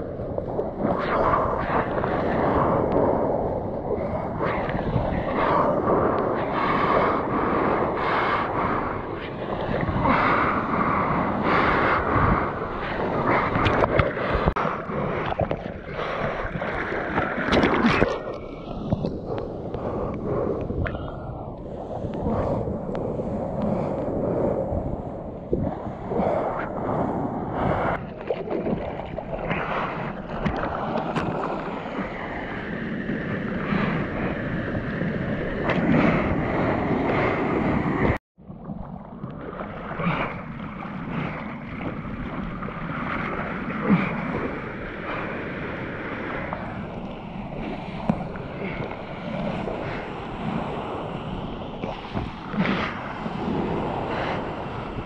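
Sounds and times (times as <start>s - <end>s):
surf washing and splashing: 0.0s - 55.0s
wind buffeting microphone: 0.0s - 55.0s.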